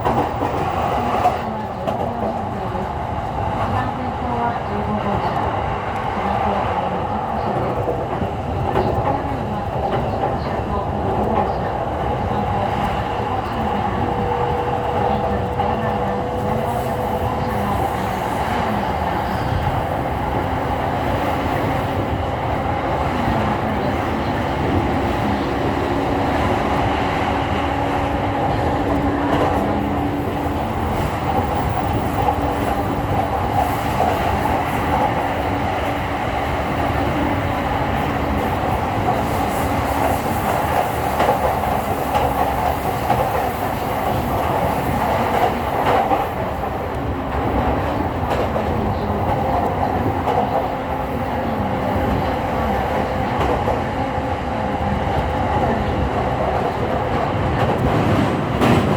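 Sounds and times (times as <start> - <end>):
clickety-clack over rail joints: 0.0 - 58.9
train wheels rumbling on rails: 0.0 - 58.9.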